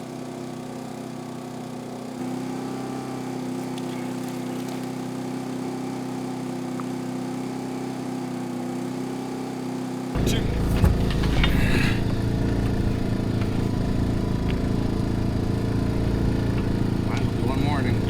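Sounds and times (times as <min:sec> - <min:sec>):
generator engine humming: 0:00.0 - 0:18.0.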